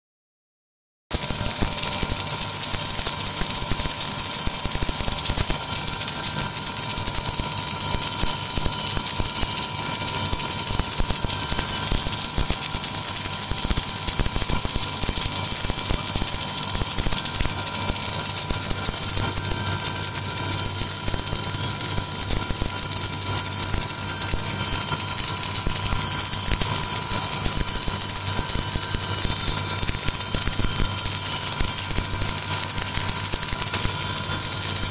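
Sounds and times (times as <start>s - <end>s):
welding equipment hissing: 1.1s - 34.9s.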